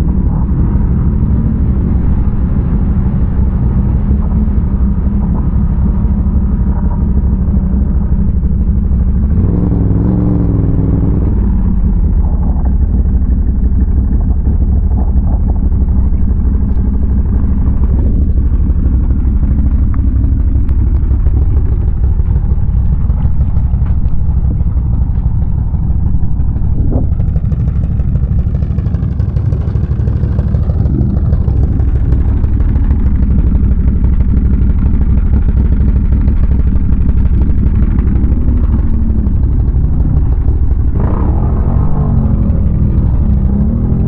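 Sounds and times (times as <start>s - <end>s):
atv engine running: 0.0s - 44.0s.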